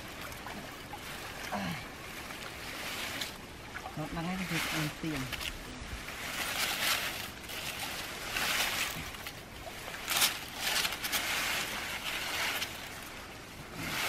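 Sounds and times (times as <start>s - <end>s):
fishing net rustling and swishing: 0.0s - 14.0s.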